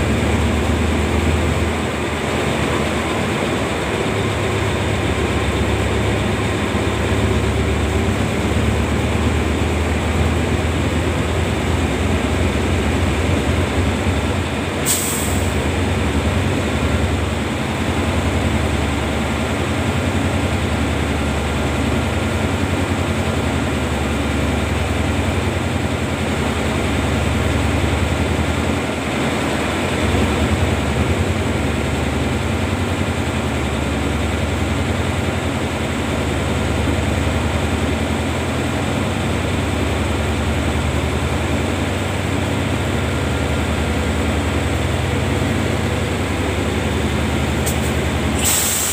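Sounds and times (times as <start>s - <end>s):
locomotive engine rumbling: 0.0s - 48.9s.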